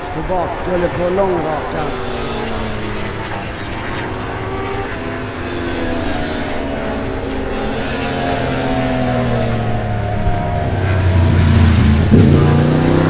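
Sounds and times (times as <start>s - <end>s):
motorcycle engines at high revs: 0.0s - 13.0s.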